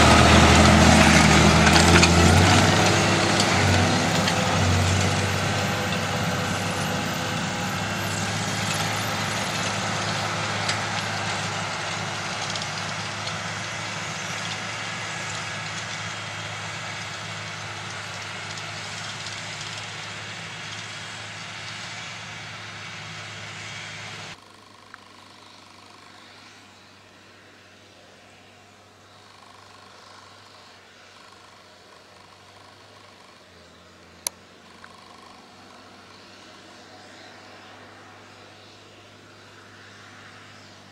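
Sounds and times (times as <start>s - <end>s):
tractor diesel engine: 0.0s - 40.9s.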